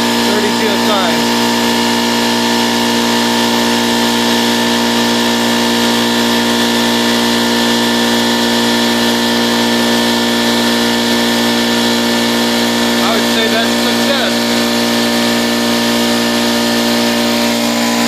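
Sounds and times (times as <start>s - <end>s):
air compressor running: 0.0s - 18.0s.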